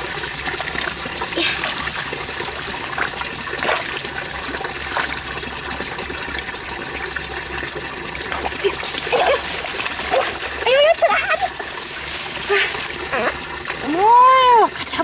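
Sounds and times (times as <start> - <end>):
water trickling in stream: 0.0 - 15.0.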